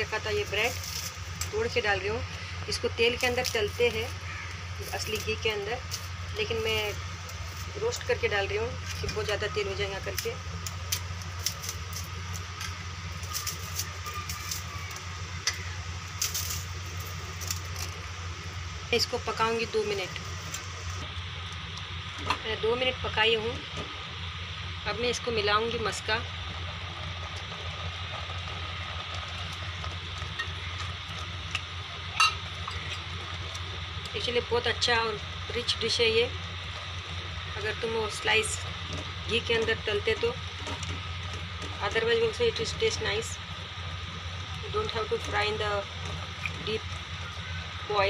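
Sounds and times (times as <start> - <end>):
low hum and hiss: 0.0 - 48.0.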